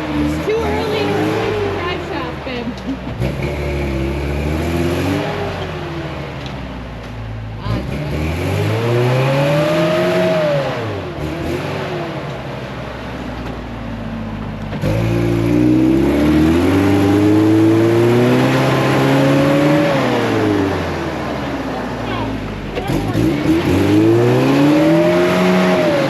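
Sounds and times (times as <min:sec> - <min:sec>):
engine revving hard: 0:00.0 - 0:06.3, 0:07.6 - 0:13.0, 0:14.7 - 0:26.0.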